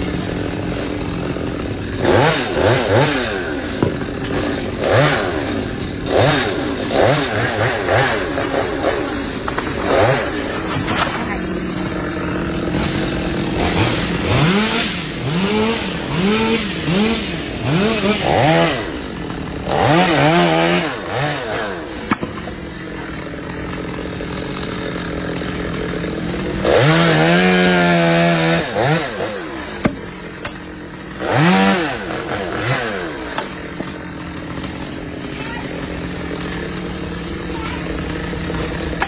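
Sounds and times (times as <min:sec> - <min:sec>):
chainsaw engine revving: 0:00.0 - 0:39.0.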